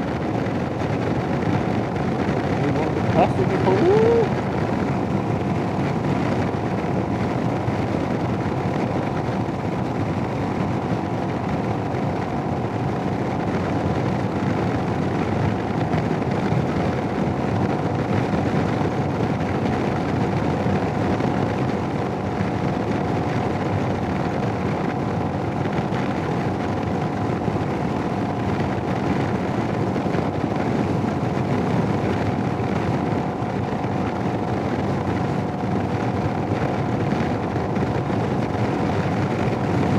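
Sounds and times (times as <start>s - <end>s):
motorcycle engine hum: 0.0s - 39.9s
wind rushing: 0.0s - 39.9s.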